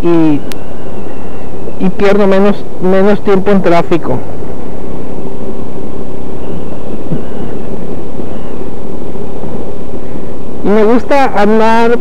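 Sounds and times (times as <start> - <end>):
scooter engine rumble: 0.0 - 12.0
wind noise: 0.0 - 12.0.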